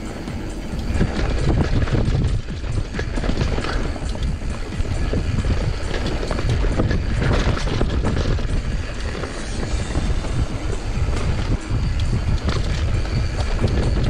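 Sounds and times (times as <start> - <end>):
bike chain and frame rattling: 0.0 - 14.0
bike tyres rolling over dirt: 0.0 - 14.0
wind rumble on microphone: 0.0 - 14.0.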